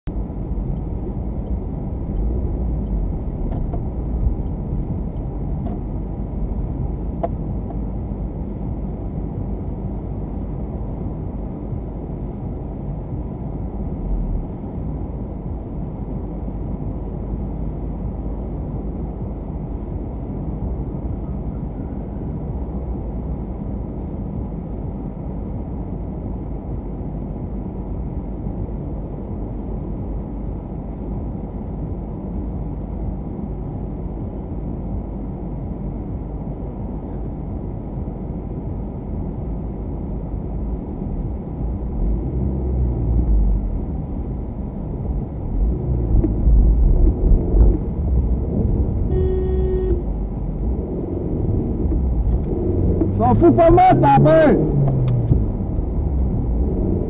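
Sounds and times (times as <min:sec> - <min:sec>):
car engine rumble: 0:00.0 - 0:57.0
road noise: 0:00.0 - 0:57.0.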